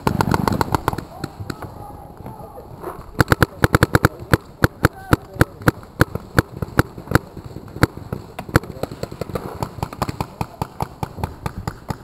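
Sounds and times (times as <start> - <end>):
close paintball marker shots: 0.0 - 1.7, 2.8 - 12.0
distant paintball shots crackling: 0.0 - 12.0.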